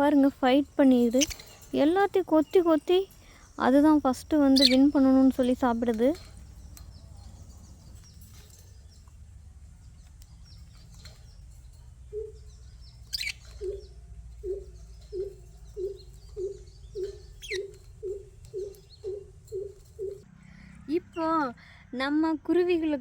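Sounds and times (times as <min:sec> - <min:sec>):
low steady hum: 0:00.0 - 0:23.0
parrots twittering: 0:00.9 - 0:20.9.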